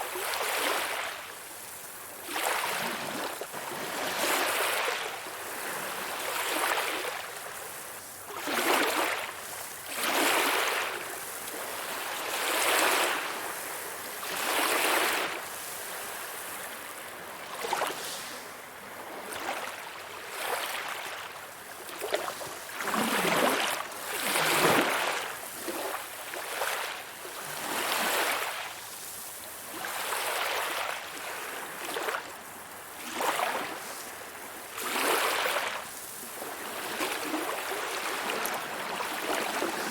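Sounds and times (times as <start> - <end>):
sea waves lapping: 2.2 - 32.2, 33.0 - 39.9.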